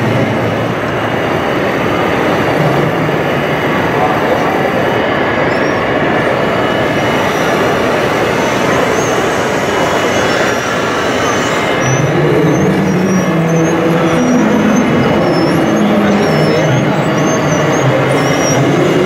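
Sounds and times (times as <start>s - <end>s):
mechanical whirring and grinding: 0.0s - 19.0s
pitched motor hum: 0.0s - 19.0s.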